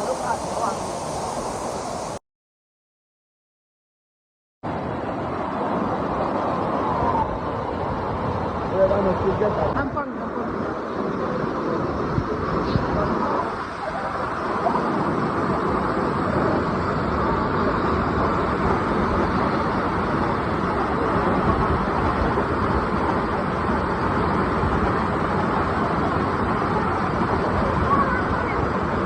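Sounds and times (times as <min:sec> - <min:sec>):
waterfall roaring: 0:00.0 - 0:02.2, 0:05.2 - 0:29.0.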